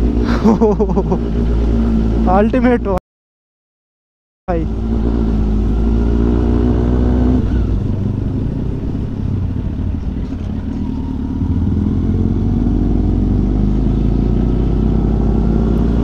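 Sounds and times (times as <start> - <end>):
motorcycle engine running: 0.0 - 3.0, 4.5 - 16.0.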